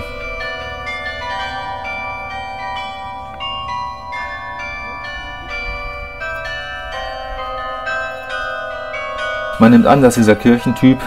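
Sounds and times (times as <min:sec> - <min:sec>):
tower bells ringing: 0:00.0 - 0:11.0.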